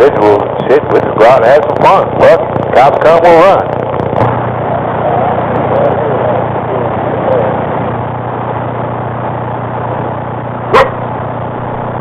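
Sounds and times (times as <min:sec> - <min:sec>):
low hum: 0:00.0 - 0:12.0
radio static hiss: 0:00.0 - 0:12.0.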